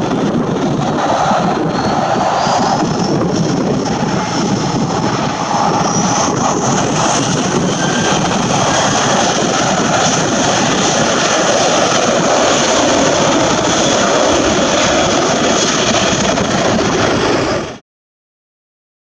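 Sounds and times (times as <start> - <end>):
high jet engine whine: 0.0 - 17.8
jet engines roaring: 0.0 - 17.8.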